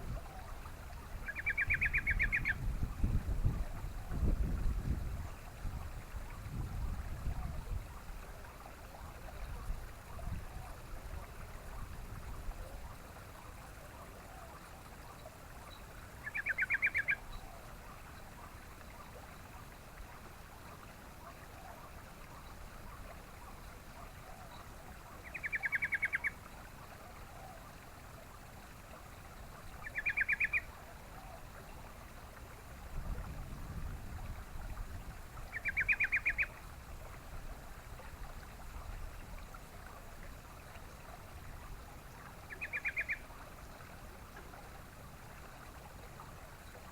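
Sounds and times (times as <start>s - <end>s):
bulbul bubbling calls: 0.0s - 5.6s, 7.2s - 46.9s.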